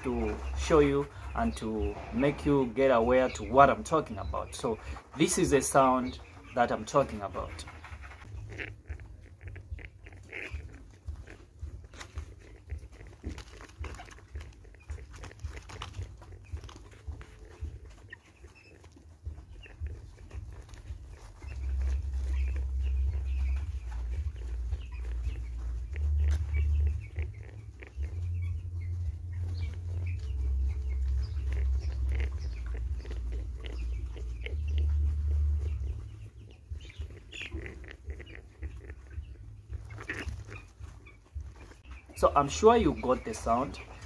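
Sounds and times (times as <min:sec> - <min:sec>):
low rumble on microphone: 0:00.0 - 0:05.6, 0:06.2 - 0:44.0
chicks breathing noises: 0:00.0 - 0:44.0.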